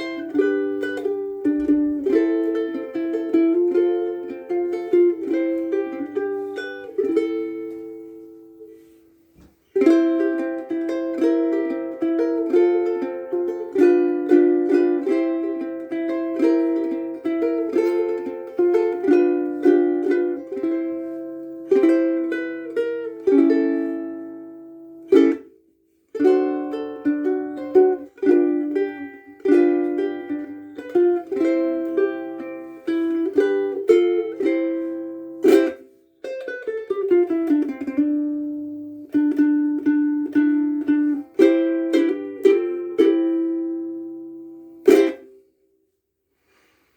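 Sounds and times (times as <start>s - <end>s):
ukulele strummed chord: 0.0s - 9.0s, 9.8s - 45.4s
ukulele fingerpicked melody: 0.0s - 45.8s.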